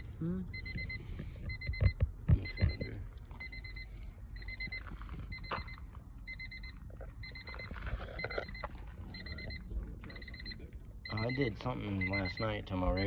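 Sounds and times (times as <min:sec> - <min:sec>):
electronic warning beeper trills: 0:00.0 - 0:13.0.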